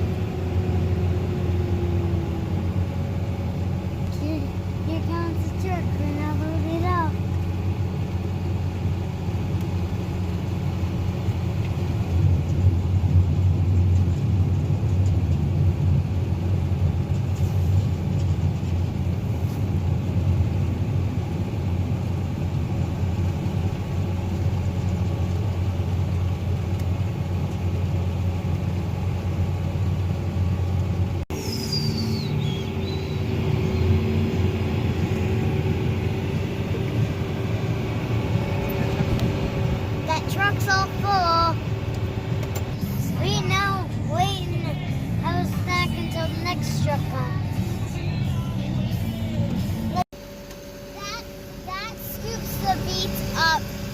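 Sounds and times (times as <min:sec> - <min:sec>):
tractor engine drone: 0:00.0 - 0:53.9.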